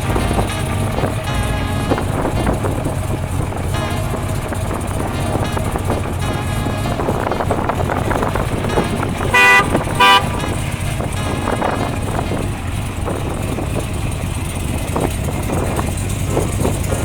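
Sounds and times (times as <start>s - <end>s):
car horn toots: 0.0s - 15.7s
car engine running: 0.0s - 17.0s.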